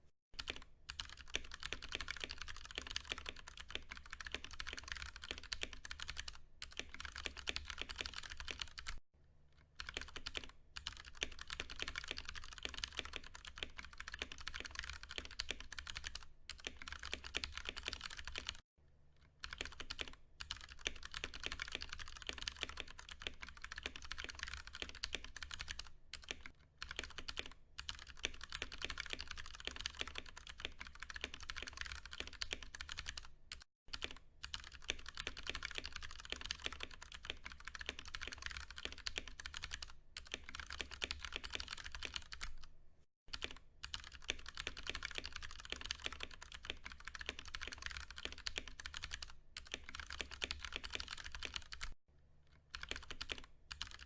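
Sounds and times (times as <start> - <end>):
mechanical keyboard clacking: 0.4 - 9.0, 9.8 - 18.6, 19.4 - 42.7, 43.3 - 52.0, 52.7 - 54.0.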